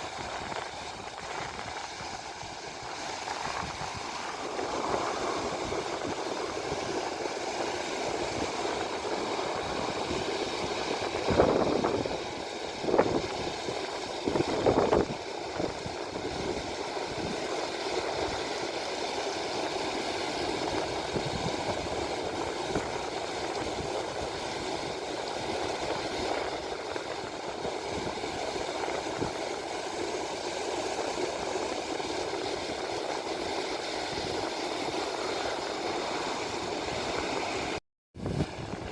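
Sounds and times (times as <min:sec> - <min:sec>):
water rushing over weir: 0:00.0 - 0:38.9.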